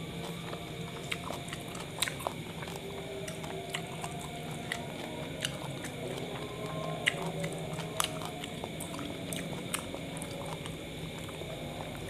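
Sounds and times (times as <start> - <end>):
faint steady hum: 0.0 - 12.0
person chewing food: 0.0 - 12.0.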